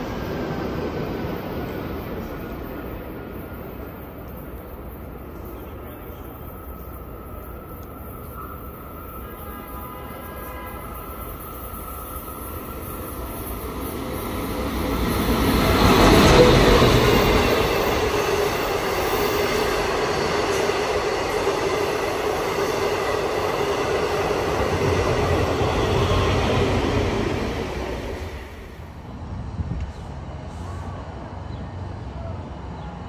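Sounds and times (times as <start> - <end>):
diesel locomotive passing: 0.0 - 33.0
train coaches rumbling past: 0.0 - 33.0.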